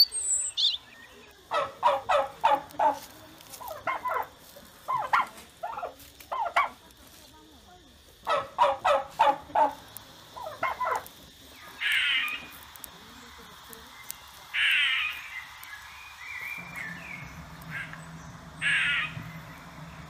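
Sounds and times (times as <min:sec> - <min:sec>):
fowl-like bird calling: 0:00.0 - 0:06.8, 0:08.2 - 0:12.6, 0:14.4 - 0:20.0.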